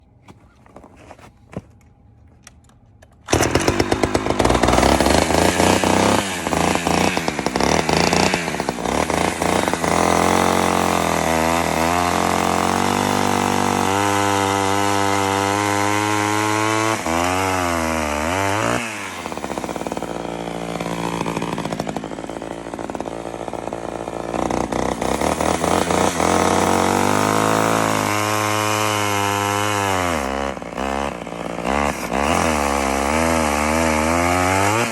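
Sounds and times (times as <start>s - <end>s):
chainsaw revving: 3.3s - 34.9s.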